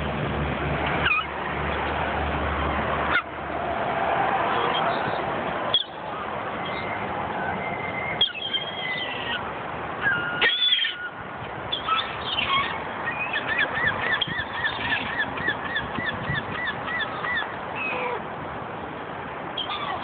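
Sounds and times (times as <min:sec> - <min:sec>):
gulls calling: 0:01.0 - 0:01.9, 0:03.0 - 0:18.3, 0:19.5 - 0:20.0.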